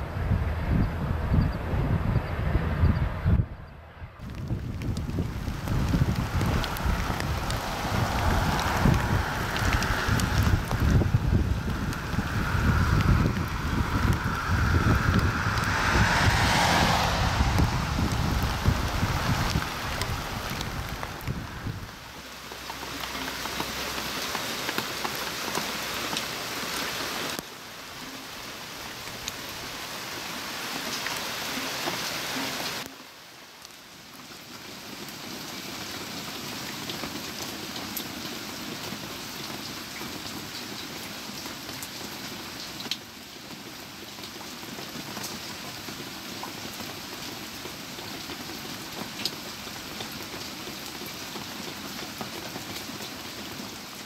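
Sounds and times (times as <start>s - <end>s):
heavy rain falling: 4.2s - 54.0s
raindrops ticking nearby: 4.2s - 54.0s.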